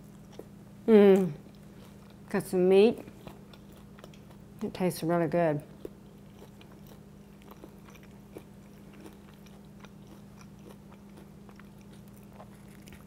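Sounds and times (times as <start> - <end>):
chewing and crunching chips: 0.0 - 4.8, 5.6 - 13.0
steady low hum: 0.0 - 13.0.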